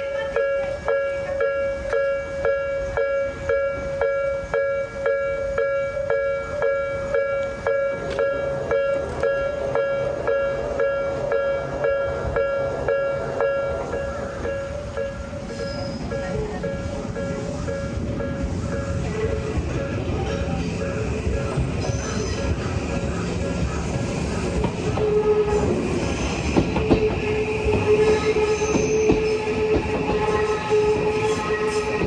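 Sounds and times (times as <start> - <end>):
railroad crossing bell clanging: 0.0 - 25.8, 26.6 - 32.0.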